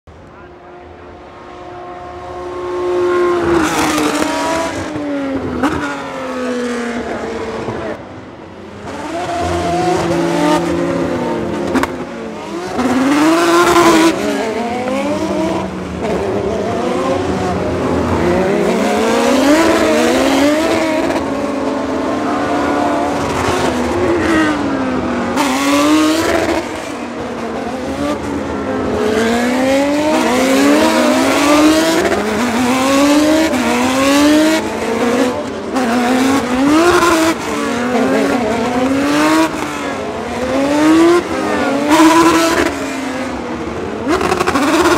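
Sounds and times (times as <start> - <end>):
race car engines revving: 0.1 - 44.9.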